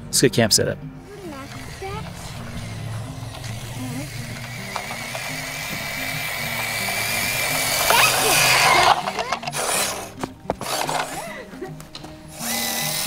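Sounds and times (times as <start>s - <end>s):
music with low bass line: 0.8s - 12.5s
toy car electric motor whine: 1.1s - 11.4s, 12.3s - 13.0s.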